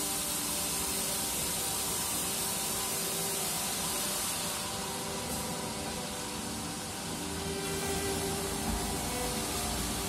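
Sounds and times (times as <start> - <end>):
band saw running: 0.0 - 10.0.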